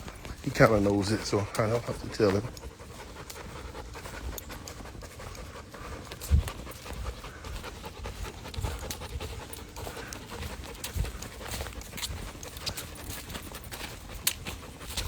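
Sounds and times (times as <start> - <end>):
dog panting: 0.0 - 15.0
footsteps: 0.0 - 15.0.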